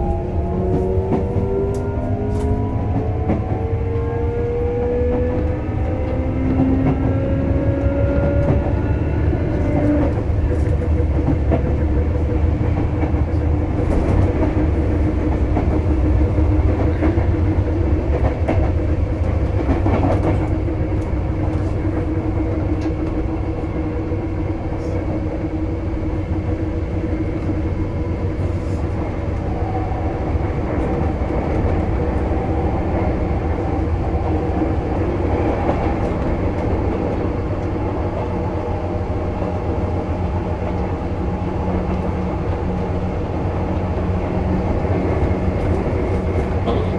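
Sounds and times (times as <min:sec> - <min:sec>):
train wheels rumbling on track: 0:00.0 - 0:46.9.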